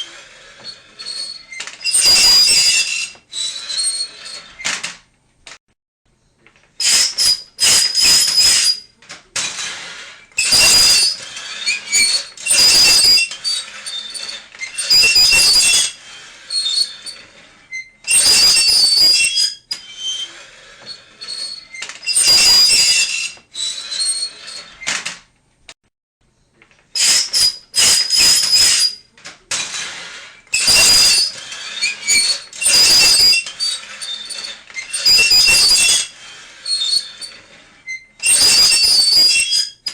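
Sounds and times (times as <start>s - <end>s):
harsh high-pitched squeals: 0.0s - 4.8s, 6.8s - 25.0s, 27.0s - 39.9s.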